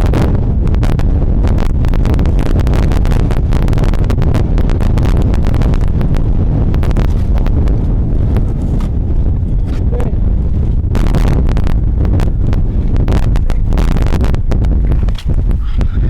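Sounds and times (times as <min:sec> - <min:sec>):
wind buffeting microphone: 0:00.0 - 0:16.0
sharp clicks and crackles: 0:00.8 - 0:16.0.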